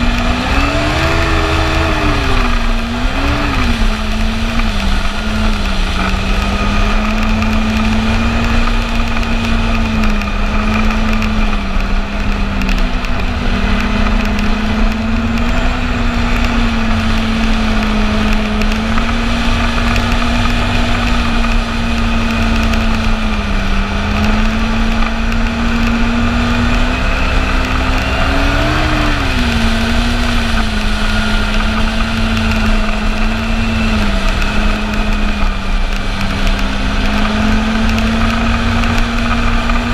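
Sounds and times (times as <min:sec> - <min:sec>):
rumble of moving sled: 0:00.0 - 0:39.9
snowmobile engine running: 0:00.0 - 0:39.9.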